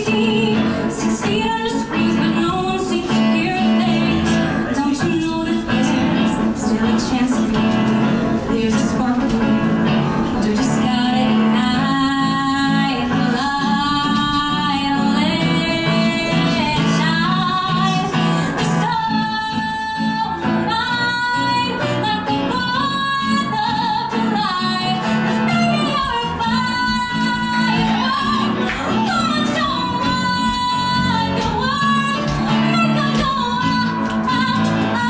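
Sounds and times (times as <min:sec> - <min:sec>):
woman singing pop song: 0:00.0 - 0:35.0.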